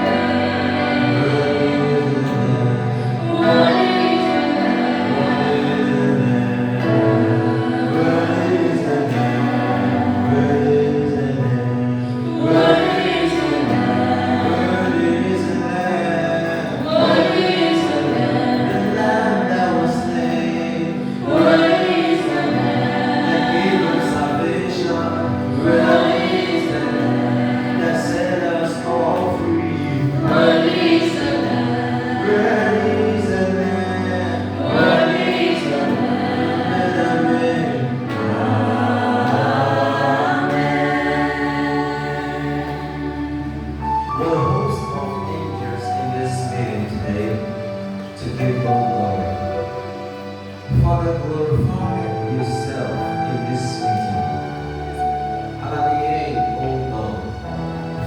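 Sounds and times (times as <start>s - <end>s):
gospel choir singing: 0.0s - 58.0s
instrumental accompaniment: 0.0s - 58.0s.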